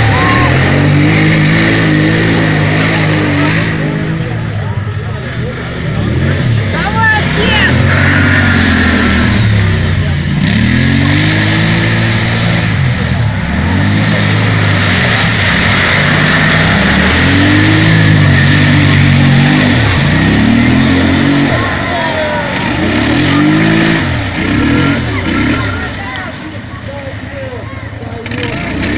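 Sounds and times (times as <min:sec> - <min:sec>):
racing engines revving: 0:00.0 - 0:28.9.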